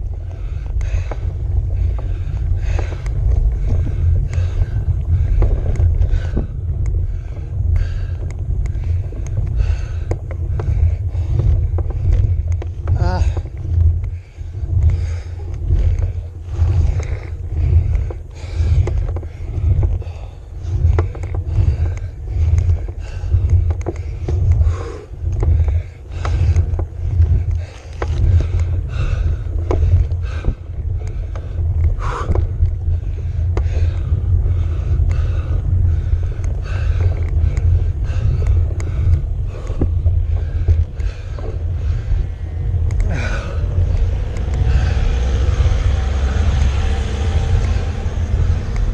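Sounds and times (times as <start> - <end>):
cyclist breathing hard: 0.0 - 48.9
light clicks from bike: 0.0 - 48.9
road vibration: 0.0 - 48.9
wind rumbling on microphone: 0.0 - 48.9.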